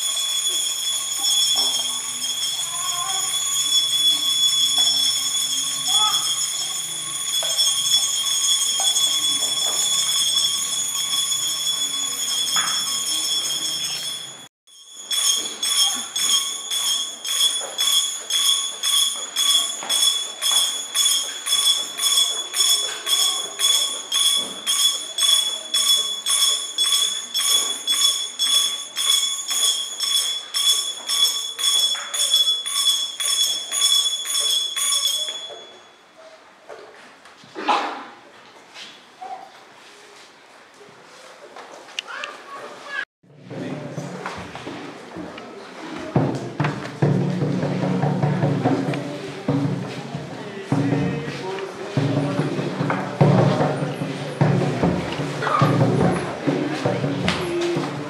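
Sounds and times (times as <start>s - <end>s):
small altar bells ringing: 0.0s - 36.4s, 47.0s - 58.0s.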